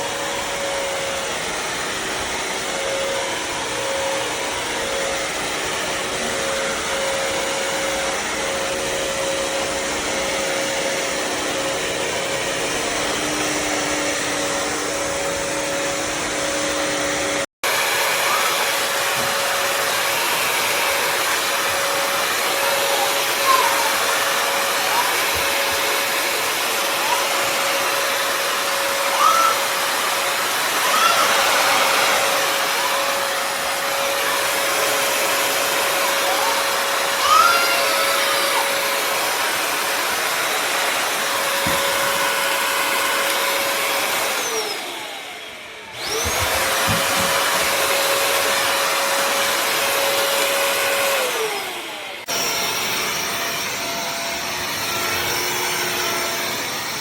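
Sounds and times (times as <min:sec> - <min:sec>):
wet-dry vacuum whining: 0:00.0 - 0:57.0.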